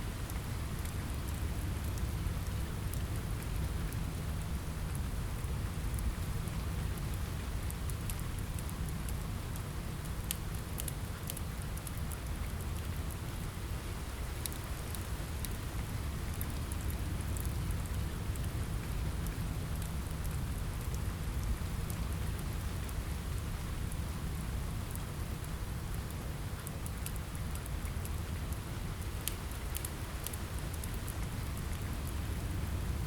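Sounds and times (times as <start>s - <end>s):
rain on a window: 0.0s - 33.0s.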